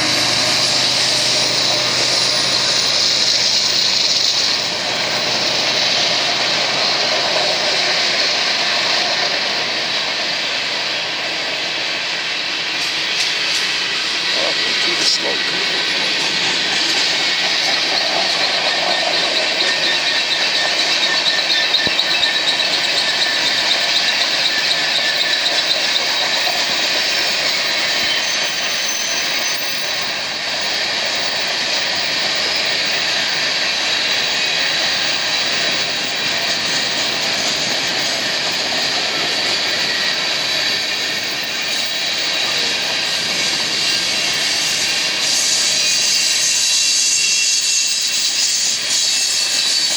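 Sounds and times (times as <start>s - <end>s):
high wheel squeal: 0.0s - 49.9s
train wheels rolling on rail: 0.0s - 49.9s.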